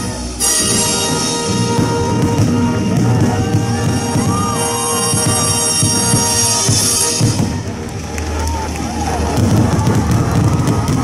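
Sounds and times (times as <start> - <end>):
loud music over loudspeakers: 0.0 - 11.0.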